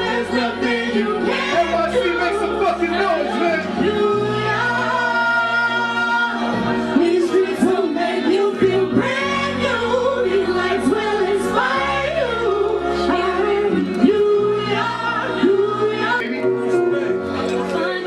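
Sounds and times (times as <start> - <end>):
backing track with bass: 0.0 - 18.0.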